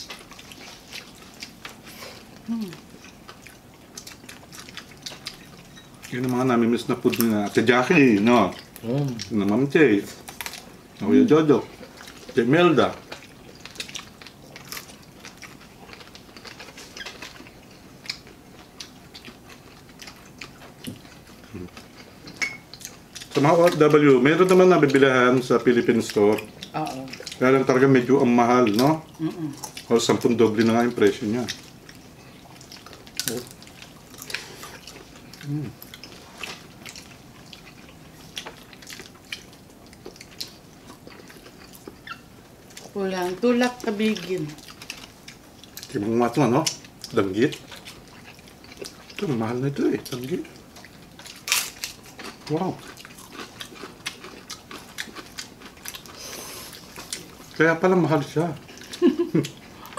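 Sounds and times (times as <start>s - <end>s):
chewing and lip-smacking: 0.0s - 28.0s, 28.6s - 59.9s.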